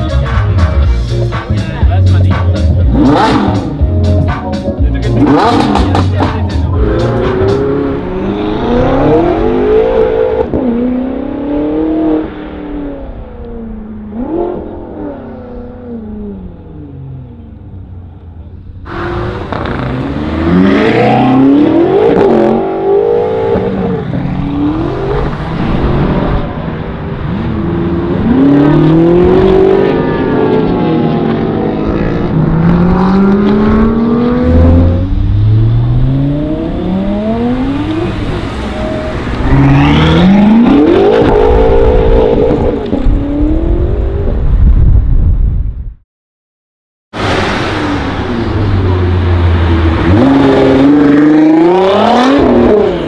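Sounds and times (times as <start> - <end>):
car engine accelerating hard: 2.2 - 3.9, 4.7 - 44.5, 47.2 - 53.0.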